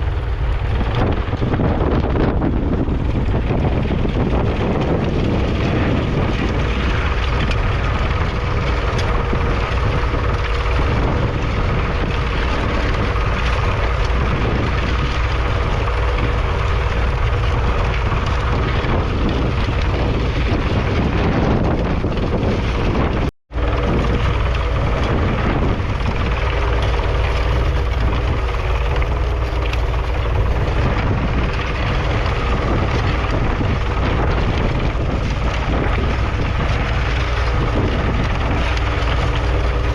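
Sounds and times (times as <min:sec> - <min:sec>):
tractor diesel engine under load: 0:00.0 - 0:39.9
wind buffeting microphone: 0:00.0 - 0:39.9.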